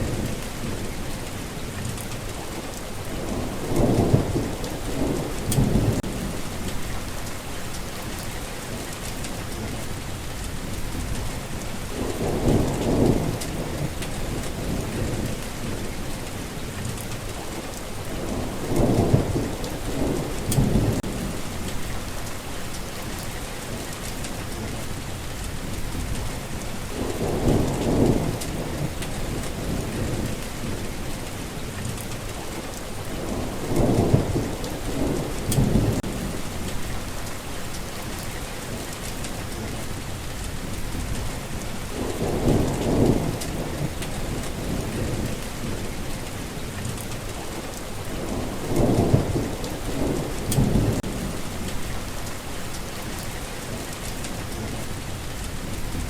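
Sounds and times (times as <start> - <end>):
thunder rumbling: 0.0 - 2.2, 2.9 - 24.8, 25.6 - 56.0
steady rain: 0.0 - 56.0.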